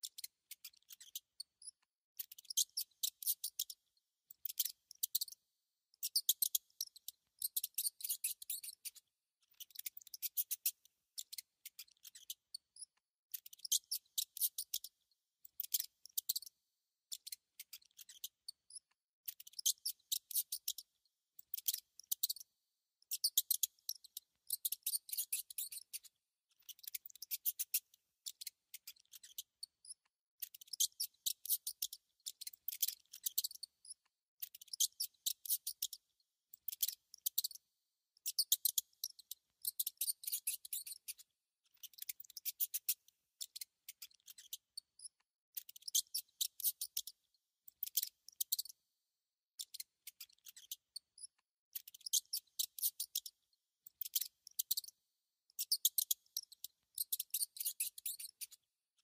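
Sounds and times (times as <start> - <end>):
mouse squeaking: 0.0 - 5.4, 6.0 - 16.5, 17.1 - 37.6, 38.2 - 48.8, 49.6 - 54.9, 55.6 - 58.6.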